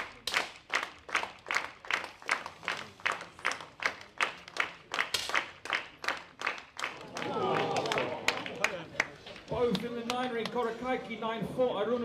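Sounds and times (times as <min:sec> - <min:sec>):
spectators clapping in unison: 0:00.0 - 0:10.6.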